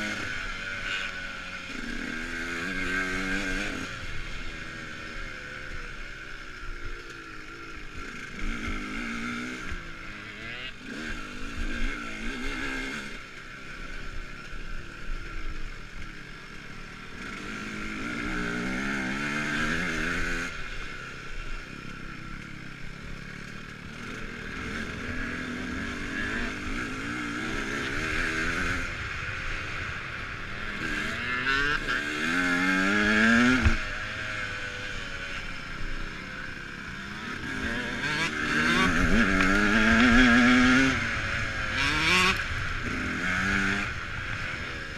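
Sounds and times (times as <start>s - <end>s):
dirt bike engine revving: 0.0s - 44.9s
steady high whine: 0.0s - 44.9s.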